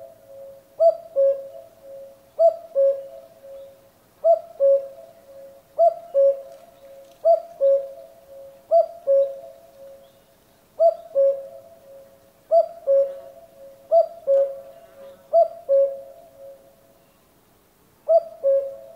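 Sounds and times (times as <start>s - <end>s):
cuckoo calling: 0.0s - 16.7s, 18.0s - 18.9s.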